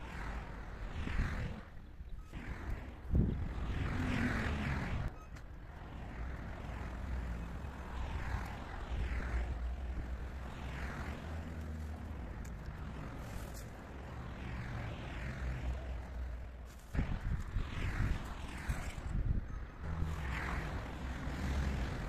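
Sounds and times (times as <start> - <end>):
road traffic hiss: 0.0 - 22.0
wind rumble on microphone: 0.0 - 22.0.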